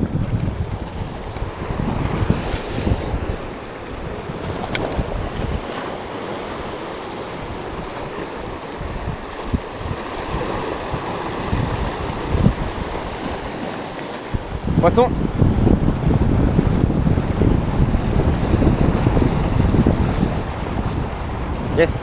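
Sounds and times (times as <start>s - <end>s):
sea waves breaking against rocks: 0.0s - 22.0s
wind buffeting microphone: 0.0s - 22.0s.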